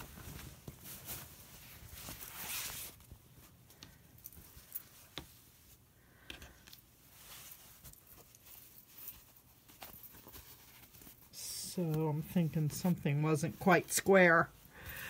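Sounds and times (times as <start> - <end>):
fabric rustling: 0.0 - 15.0.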